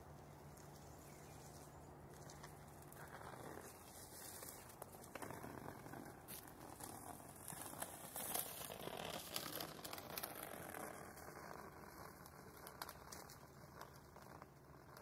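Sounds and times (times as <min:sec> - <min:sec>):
crackly clicks: 0:02.1 - 0:15.0.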